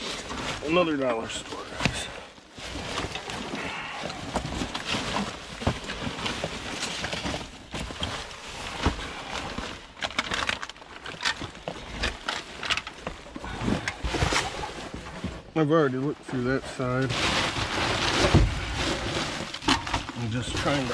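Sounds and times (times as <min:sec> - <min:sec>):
trash rustling and crunching: 0:00.0 - 0:20.9.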